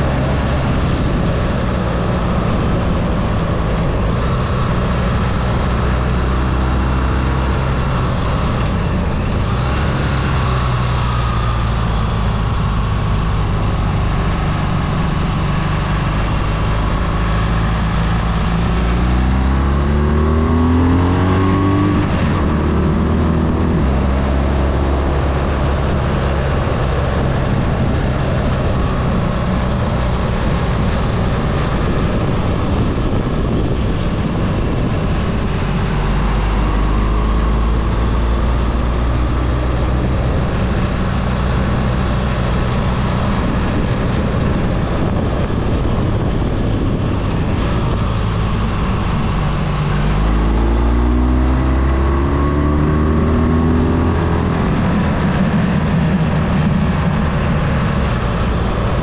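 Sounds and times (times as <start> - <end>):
vehicle engine accelerating uphill: 0.0 - 59.0.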